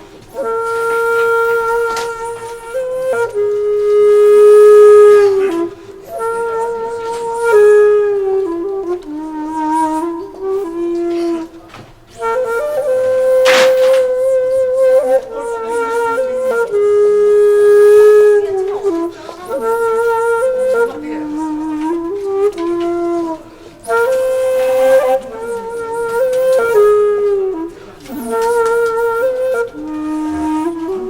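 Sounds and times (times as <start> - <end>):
solo flute-like melody: 0.0 - 31.0.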